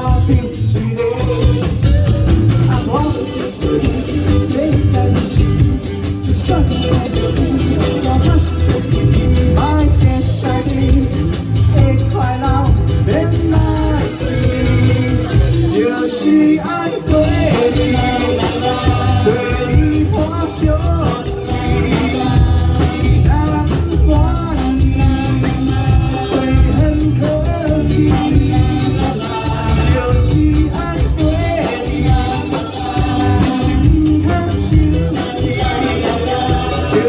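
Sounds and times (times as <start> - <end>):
live band playing: 0.0 - 37.0
person singing: 0.0 - 37.0.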